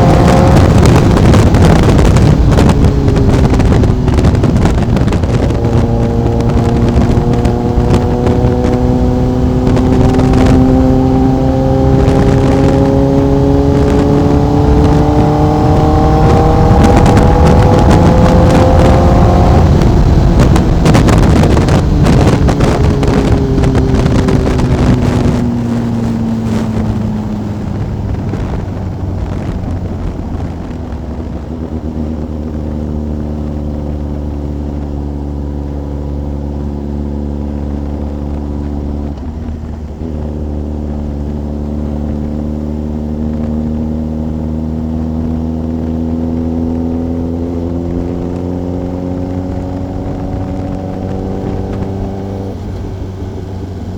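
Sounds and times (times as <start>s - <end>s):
motorcycle engine and exhaust: 0.0s - 53.9s
wind rushing past microphone: 0.0s - 53.9s.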